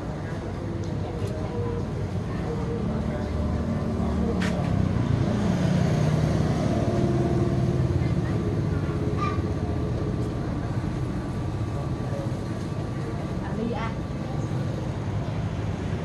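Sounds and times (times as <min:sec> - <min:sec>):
faint voices: 0:00.0 - 0:16.0
street traffic passing: 0:00.0 - 0:16.0.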